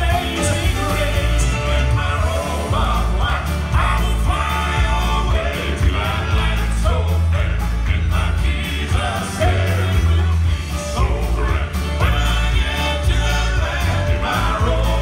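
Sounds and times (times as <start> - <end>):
deep bass line: 0.0 - 15.0
keyboard accompaniment: 0.0 - 15.0
male quartet singing in harmony: 0.0 - 15.0.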